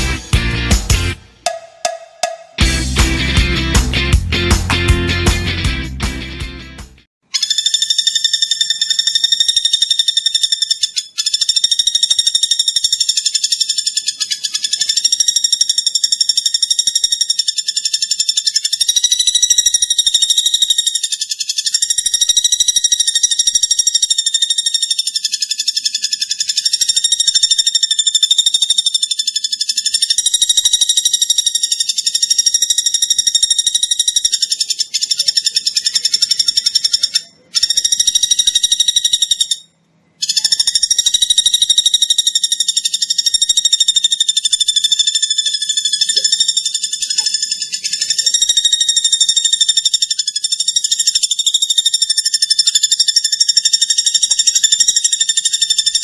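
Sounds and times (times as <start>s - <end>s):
bird trilling rapidly: 7.2s - 56.0s.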